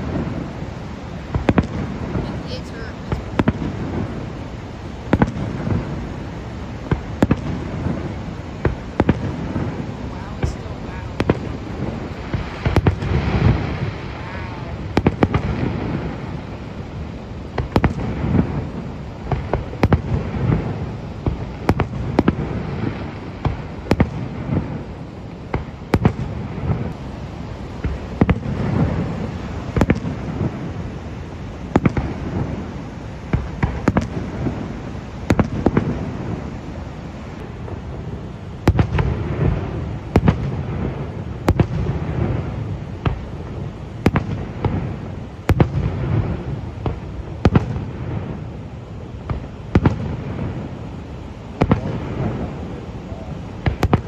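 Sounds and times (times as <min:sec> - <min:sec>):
fireworks bangs and pops: 0:00.0 - 0:54.0.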